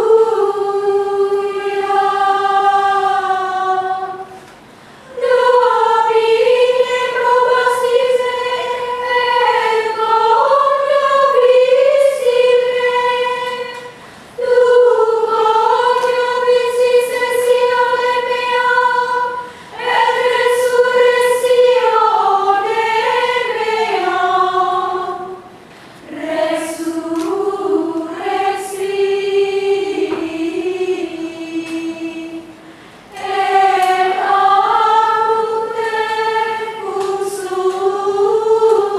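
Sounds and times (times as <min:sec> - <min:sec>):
women's choir chanting unaccompanied: 0:00.0 - 0:38.9.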